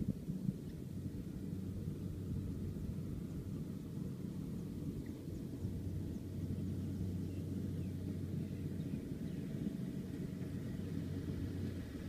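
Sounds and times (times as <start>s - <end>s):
distant farm machinery engine: 0.0s - 12.0s.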